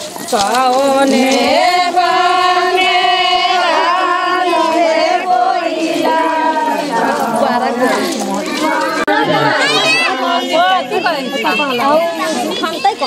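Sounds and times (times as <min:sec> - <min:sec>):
group of voices singing: 0:00.0 - 0:12.6.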